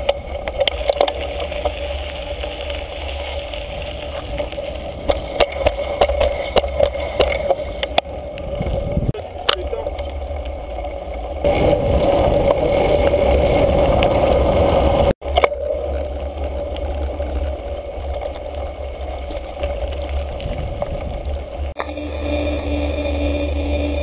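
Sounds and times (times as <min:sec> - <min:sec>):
bicycle rolling and rattling: 0:00.0 - 0:24.0
wind rumbling on microphone: 0:00.0 - 0:24.0.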